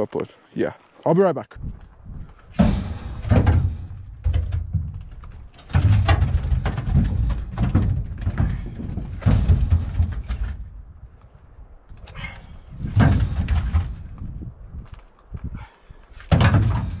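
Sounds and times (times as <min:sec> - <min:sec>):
gusty wind on microphone: 0:01.6 - 0:17.0
wooden knocks of firewood tossed: 0:01.7 - 0:17.0.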